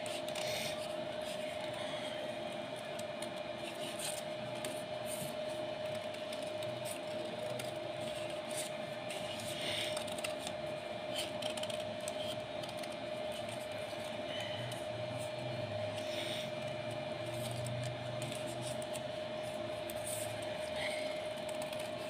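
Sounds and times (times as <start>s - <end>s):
steady hum: 0.0s - 22.0s
paper rustling and crackling: 2.8s - 16.2s, 17.2s - 22.0s.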